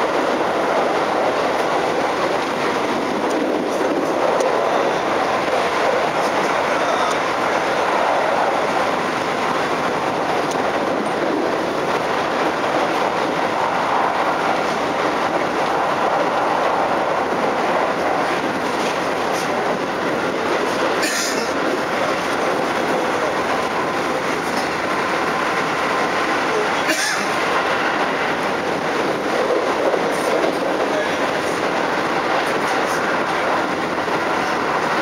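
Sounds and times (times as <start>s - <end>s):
train wheels running on rails: 0.0s - 35.0s.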